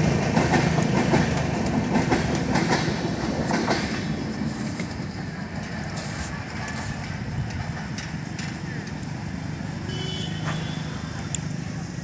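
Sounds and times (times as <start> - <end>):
train wheels clattering on rails: 0.0 - 11.7.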